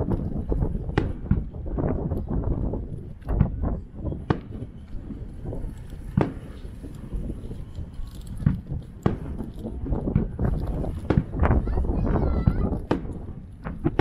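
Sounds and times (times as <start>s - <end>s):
firework bangs: 0.0s - 14.0s.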